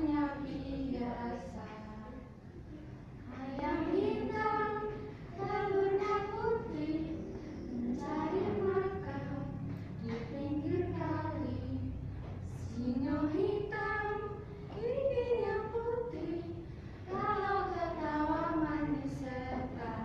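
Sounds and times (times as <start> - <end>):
children singing in unison: 3.3 - 12.0, 12.6 - 20.0.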